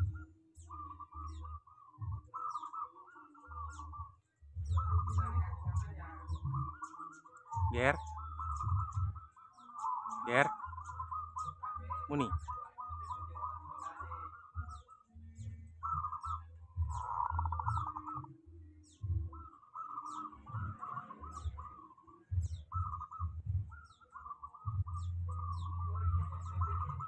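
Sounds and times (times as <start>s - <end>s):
bird warbling and trilling: 0.0s - 27.0s
high falling bird chirp: 0.0s - 27.0s.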